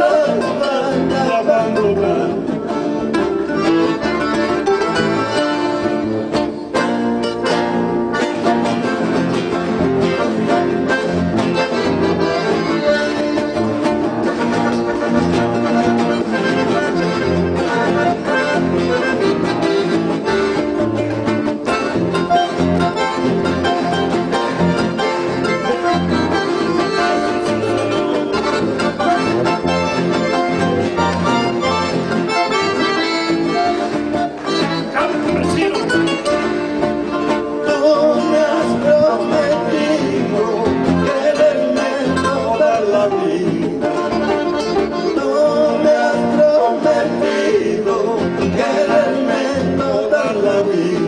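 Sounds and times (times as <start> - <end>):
accordion sustained notes: 0.0 - 51.0
plucked acoustic guitar: 0.0 - 51.0.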